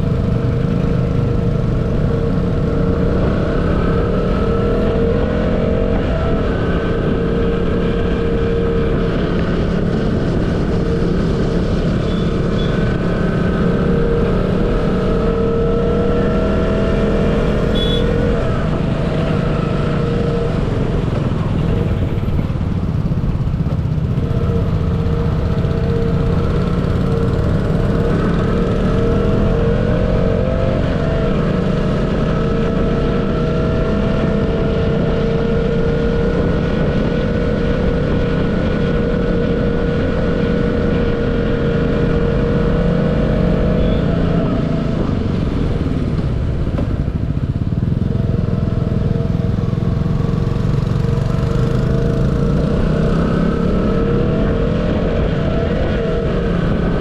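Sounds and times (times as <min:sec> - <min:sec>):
motorcycle engine humming: 0:00.0 - 0:57.0
wind and road rumble: 0:00.0 - 0:57.0.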